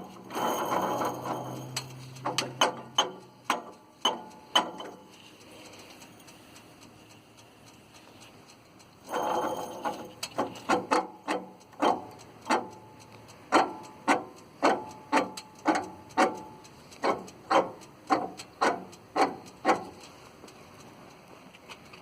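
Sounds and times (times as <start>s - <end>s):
pulley bearing clunking: 0.0s - 6.2s, 8.7s - 20.6s.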